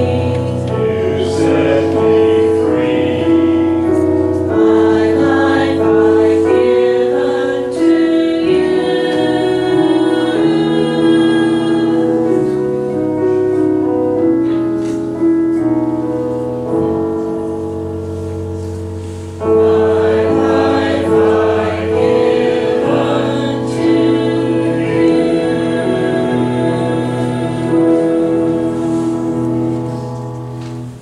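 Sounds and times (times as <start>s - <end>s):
church choir singing: 0.0s - 31.0s.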